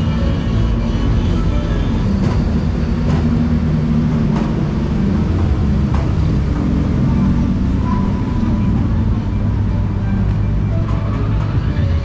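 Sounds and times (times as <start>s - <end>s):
low rumble of motor traffic: 0.0s - 12.0s
music playing: 0.0s - 12.0s.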